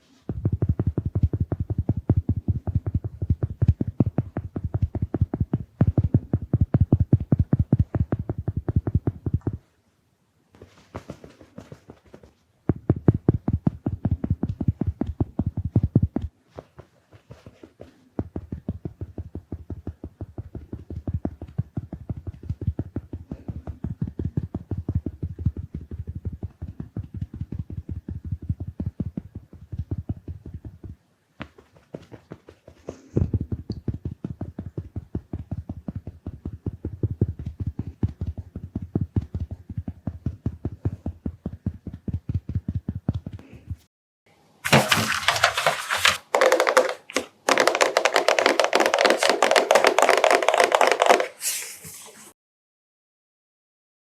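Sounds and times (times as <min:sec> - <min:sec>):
sponge patting microphone: 0:00.0 - 0:09.8, 0:10.5 - 0:43.9, 0:44.7 - 0:52.3.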